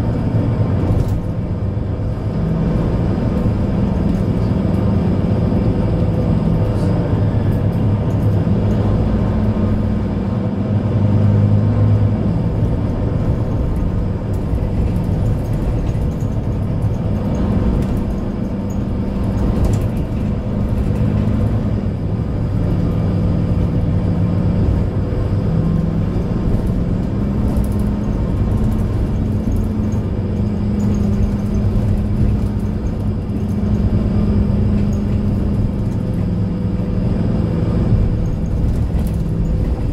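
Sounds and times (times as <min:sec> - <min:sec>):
bus diesel engine humming: 0:00.0 - 0:39.9.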